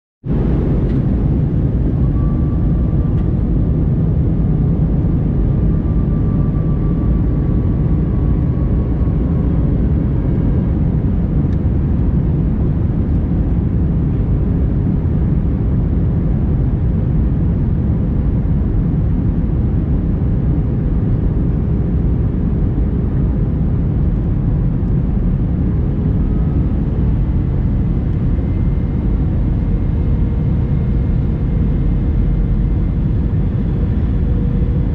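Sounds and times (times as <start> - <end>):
airliner cabin engine rumble: 0.3 - 34.9
faint hum: 0.3 - 34.9
faint whine: 0.3 - 34.9.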